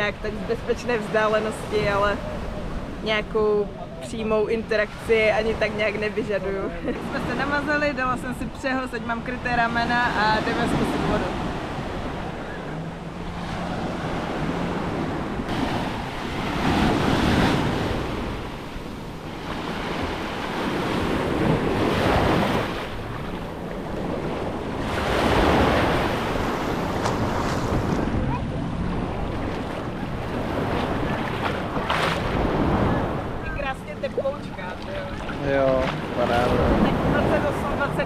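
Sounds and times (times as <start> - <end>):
small waves washing ashore: 0.0 - 38.0
wind rumbling on microphone: 0.0 - 38.0.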